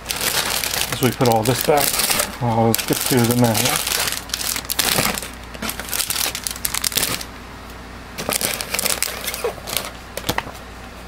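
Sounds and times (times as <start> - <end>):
plastic bags crinkling: 0.0 - 7.3, 8.2 - 10.0.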